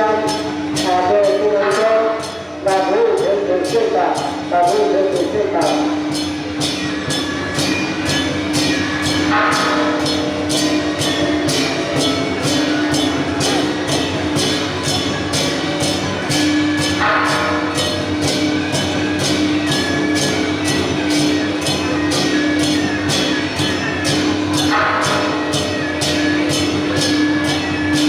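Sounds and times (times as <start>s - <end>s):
cymbals and drums beating: 0.0s - 28.0s.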